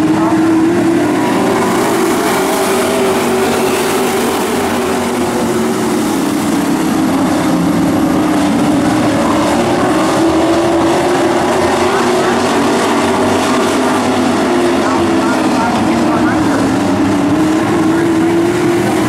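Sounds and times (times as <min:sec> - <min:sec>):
racing truck engines droning: 0:00.0 - 0:19.0.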